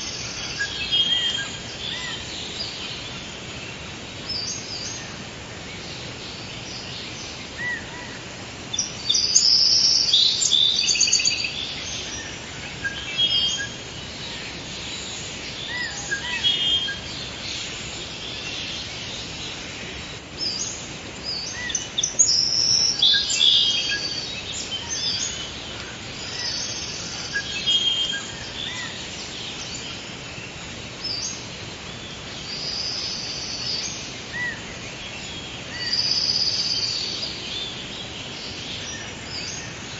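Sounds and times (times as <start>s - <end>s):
birds chirping and trilling: 0.0s - 39.9s
steady background hiss: 0.0s - 39.9s.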